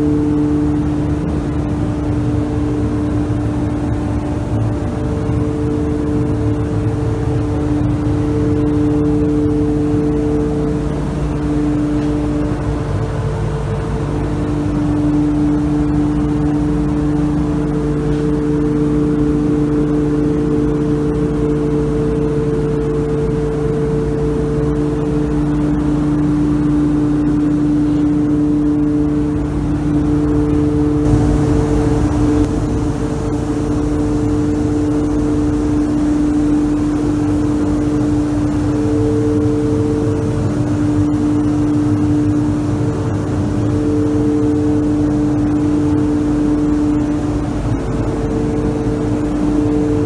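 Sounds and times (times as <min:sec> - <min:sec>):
ventilation fan humming: 0:00.0 - 0:50.0.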